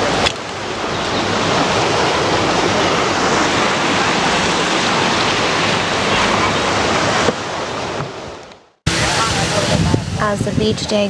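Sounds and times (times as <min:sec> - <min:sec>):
ocean waves washing onto beach: 0:00.0 - 0:11.0.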